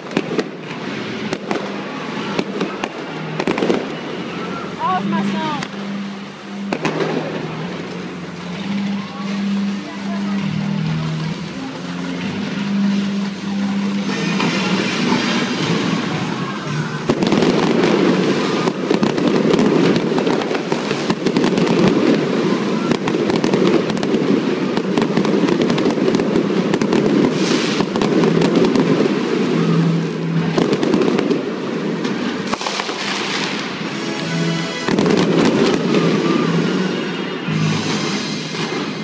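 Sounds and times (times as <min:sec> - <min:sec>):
fireworks crackling and banging: 0:00.0 - 0:39.0
music playing: 0:00.0 - 0:39.0.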